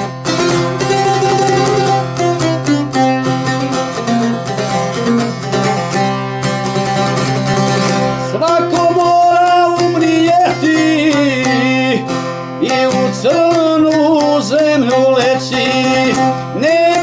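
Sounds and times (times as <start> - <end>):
plucked lute drone and melody: 0.0 - 17.0.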